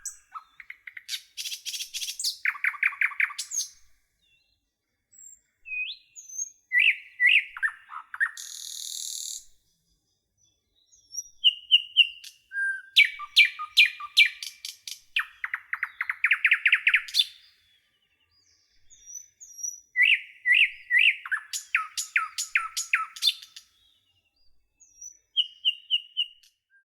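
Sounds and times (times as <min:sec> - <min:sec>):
songbird chirping and trilling: 0:00.0 - 0:26.7.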